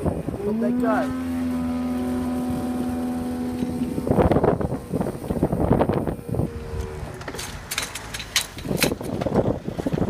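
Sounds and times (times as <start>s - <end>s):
barrier mechanism humming: 0.0s - 10.0s.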